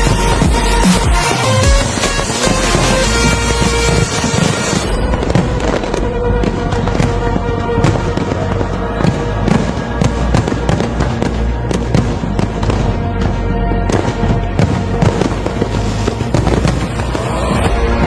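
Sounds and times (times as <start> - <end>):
fireworks bangs and crackles: 0.0 - 18.0
loud music: 0.0 - 18.0.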